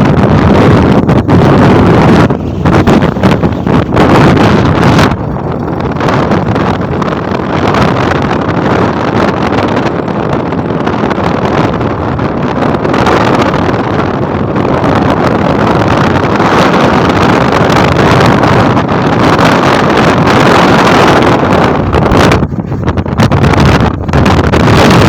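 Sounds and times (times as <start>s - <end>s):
loud steady rushing noise: 0.0s - 25.0s.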